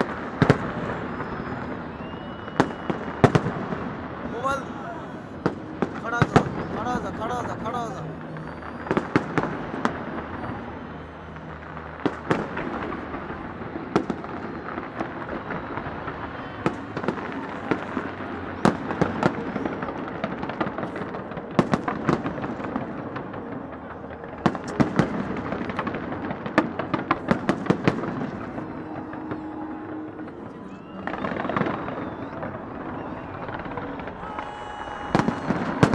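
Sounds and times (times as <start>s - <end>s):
crowd hubbub: 0.0s - 35.9s
fireworks bangs: 0.0s - 35.9s.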